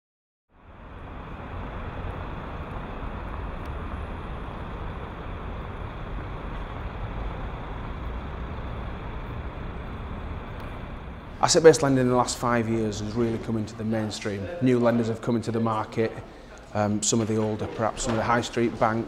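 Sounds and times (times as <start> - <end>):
city street traffic rumble: 0.5 - 19.0.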